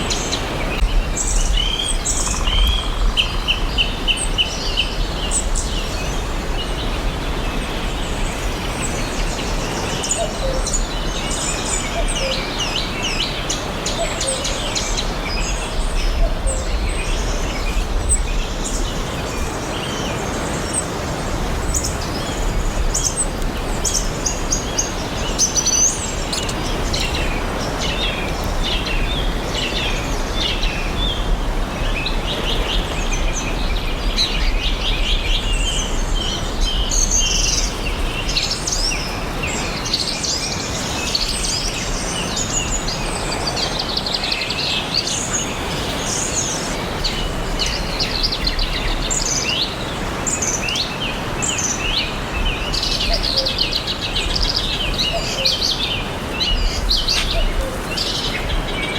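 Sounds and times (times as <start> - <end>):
songbirds chirping and singing: 0.0 - 58.9.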